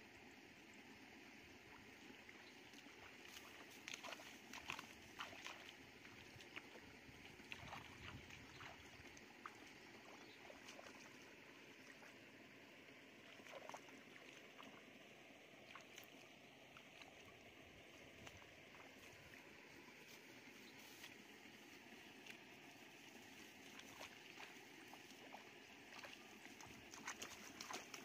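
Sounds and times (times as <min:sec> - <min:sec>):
feet wading through muddy water: 0:01.7 - 0:28.0.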